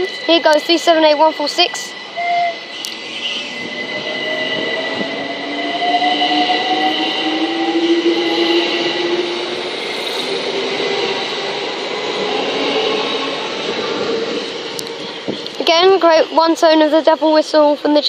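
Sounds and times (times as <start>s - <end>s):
electric train rumble: 0.0s - 18.0s
train whining tones rising: 0.0s - 18.0s.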